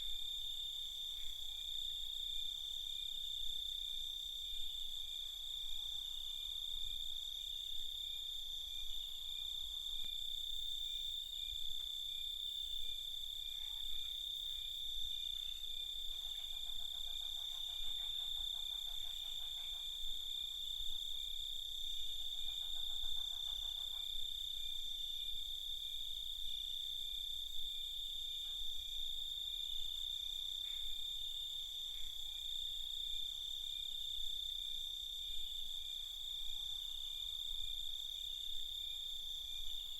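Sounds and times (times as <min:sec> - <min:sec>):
low rapidly pulsing insect call: 0:00.0 - 0:39.9.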